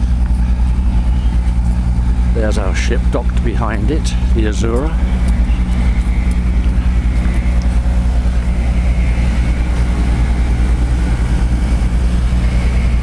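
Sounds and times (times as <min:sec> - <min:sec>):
deep hum: 0:00.0 - 0:13.0
steady low rumble: 0:00.0 - 0:13.0.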